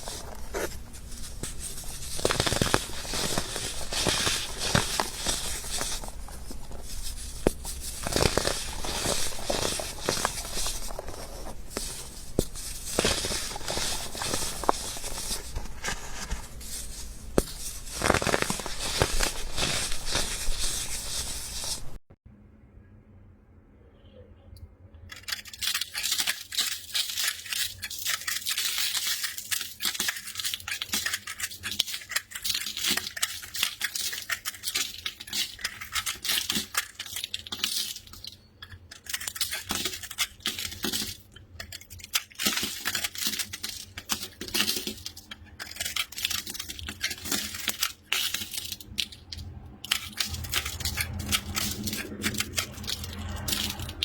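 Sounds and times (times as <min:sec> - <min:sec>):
brittle material crackling and crunching: 0:00.0 - 0:22.0, 0:25.1 - 0:54.0.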